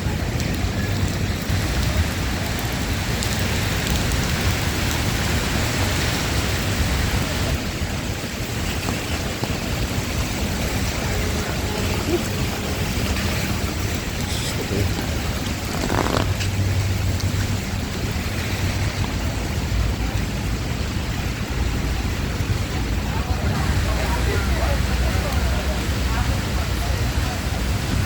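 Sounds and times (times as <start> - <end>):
low rumble of traffic: 0.0 - 28.0
rain falling on street: 0.0 - 28.0.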